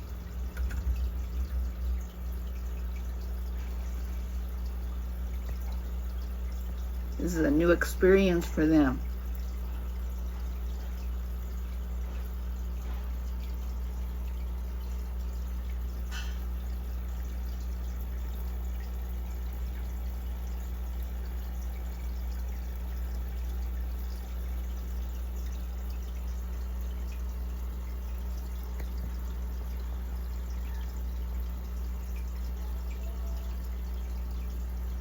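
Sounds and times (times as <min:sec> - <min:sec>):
steady low hum: 0:00.0 - 0:35.0
water trickling and dripping: 0:00.0 - 0:35.0.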